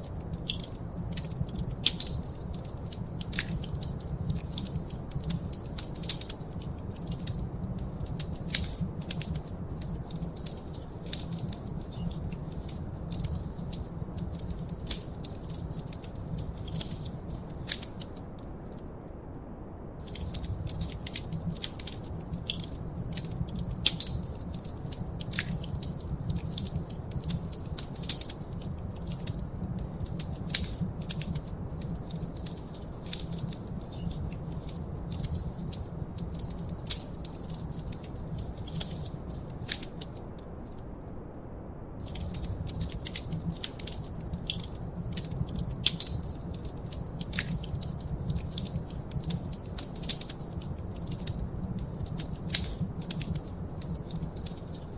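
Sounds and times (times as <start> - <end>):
wood fire crackling: 0.0 - 19.0, 20.0 - 41.3, 42.0 - 54.9
low rumble of flames: 0.0 - 54.9.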